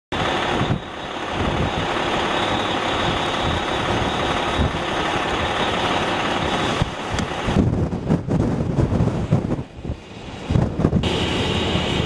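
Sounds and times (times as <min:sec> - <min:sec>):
gusty wind buffeting microphone: 0:00.2 - 0:12.0.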